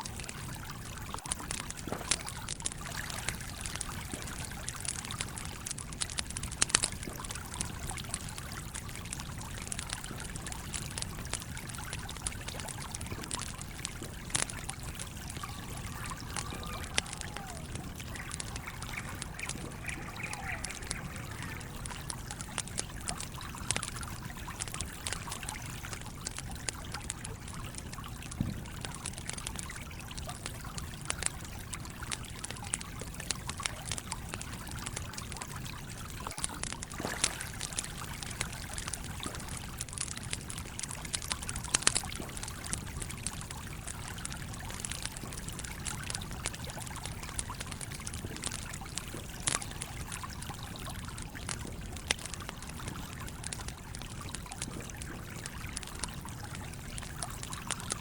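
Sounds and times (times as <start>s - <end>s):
campfire crackling and popping: 0.0s - 58.0s
stream running: 0.0s - 58.0s.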